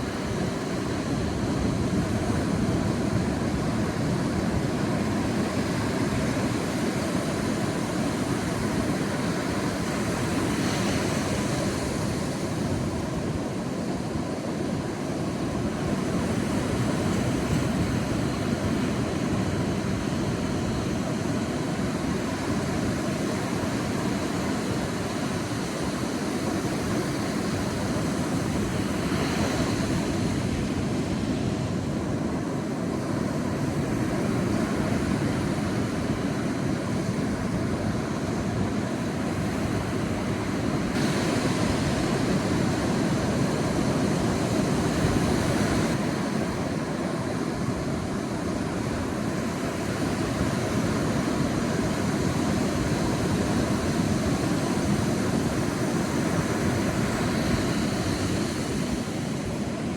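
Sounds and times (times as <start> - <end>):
sea waves washing onto beach: 0.0 - 59.9.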